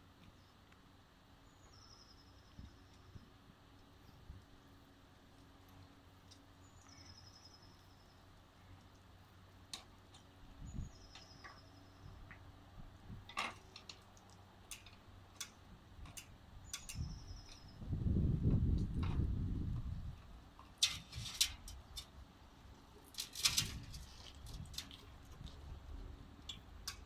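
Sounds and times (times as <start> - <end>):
low rumble of wheelchair moving: 1.4 - 27.0.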